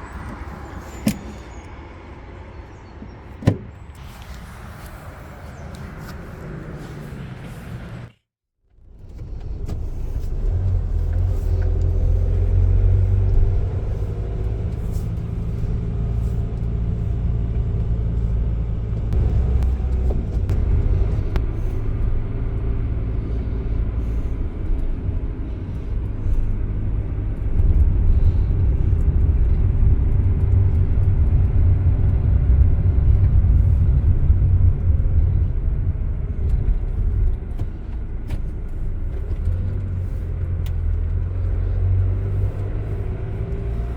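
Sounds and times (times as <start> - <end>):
van diesel engine rumbling: 0.0 - 43.9.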